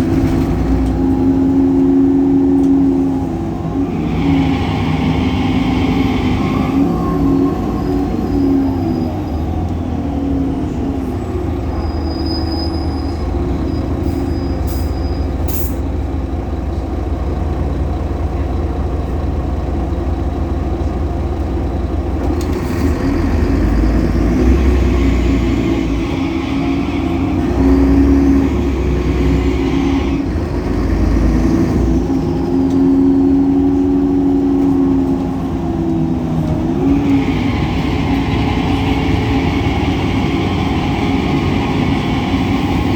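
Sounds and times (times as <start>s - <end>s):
bus diesel engine running: 0.0s - 42.9s
high engine whine: 0.0s - 42.9s.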